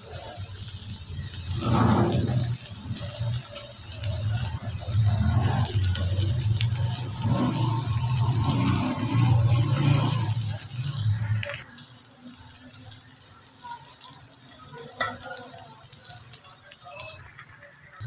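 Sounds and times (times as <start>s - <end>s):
vegetables sizzling in a pot: 0.0s - 18.0s.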